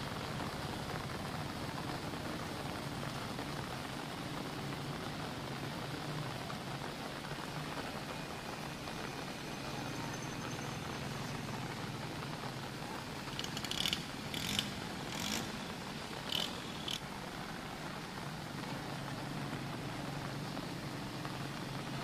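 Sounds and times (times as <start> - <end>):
rain falling on a street: 0.0 - 22.0.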